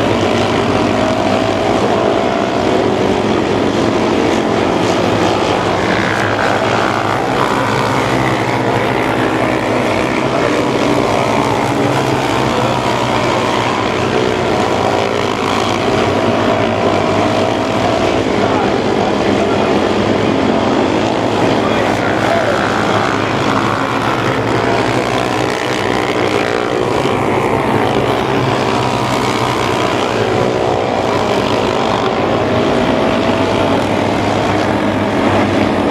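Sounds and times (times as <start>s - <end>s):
race car engines passing: 0.0s - 35.9s.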